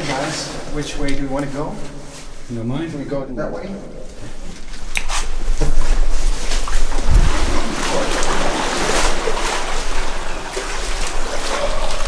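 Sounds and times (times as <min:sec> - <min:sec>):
water sloshing and splashing: 0:00.0 - 0:02.5, 0:03.7 - 0:12.0.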